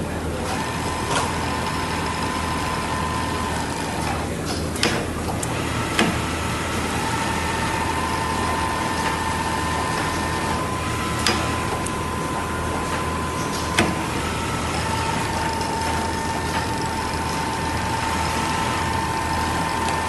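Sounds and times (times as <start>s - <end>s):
sewing machine motor whine: 0.0s - 20.0s.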